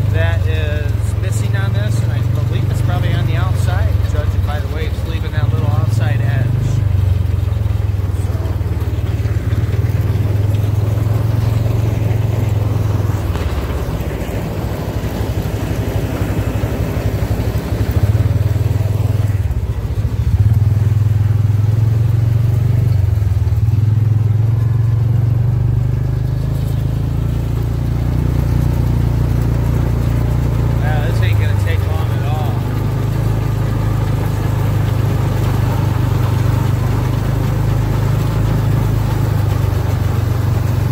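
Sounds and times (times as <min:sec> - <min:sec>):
tractor engine droning: 0:00.0 - 0:40.9.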